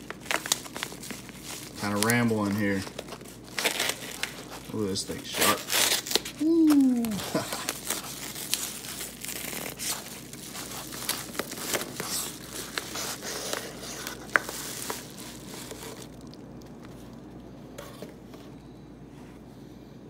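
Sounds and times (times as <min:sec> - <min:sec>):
paper envelope tearing and crumpling: 0:00.0 - 0:16.4.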